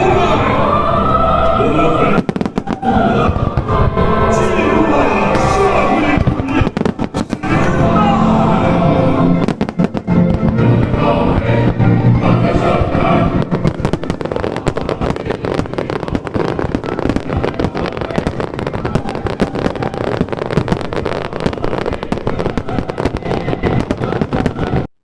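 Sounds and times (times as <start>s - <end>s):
fireworks crackling: 1.2s - 25.0s.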